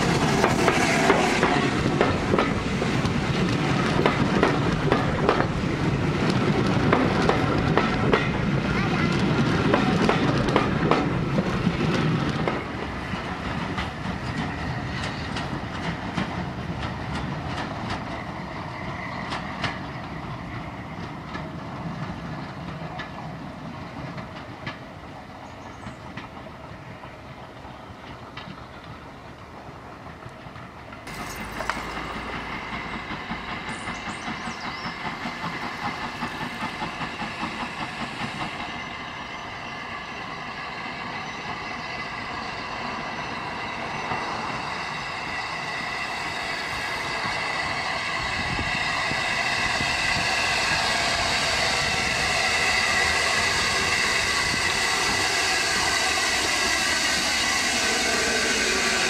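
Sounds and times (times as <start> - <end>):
train wheels clicking over rail joints: 0.0 - 26.7, 27.6 - 59.0
distant train with pulsing beat: 0.0 - 28.7, 31.0 - 59.0.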